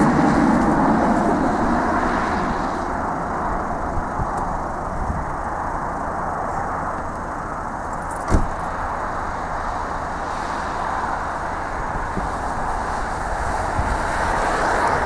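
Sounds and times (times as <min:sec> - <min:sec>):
turboprop airplane drone: 0:00.0 - 0:15.0.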